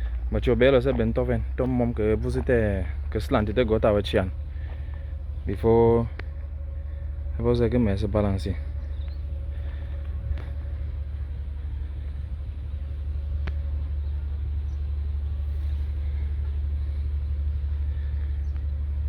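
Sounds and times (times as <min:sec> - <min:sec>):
heavy machinery diesel rumble: 0:00.0 - 0:19.0.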